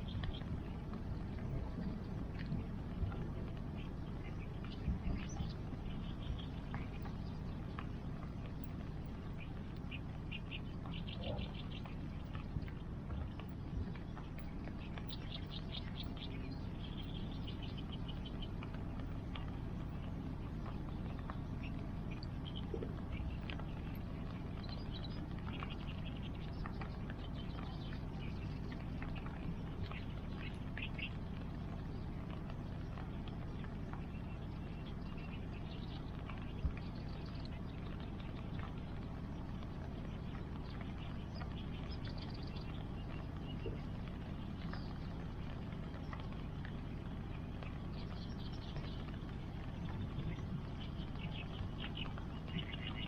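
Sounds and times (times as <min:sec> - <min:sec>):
bonfire crackling and popping: 0:00.0 - 0:53.0
rain: 0:00.0 - 0:53.0
river water: 0:00.0 - 0:53.0.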